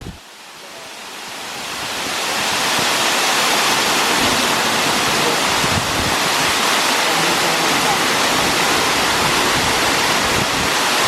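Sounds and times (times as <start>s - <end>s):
waterfall crashing: 0.0s - 11.0s.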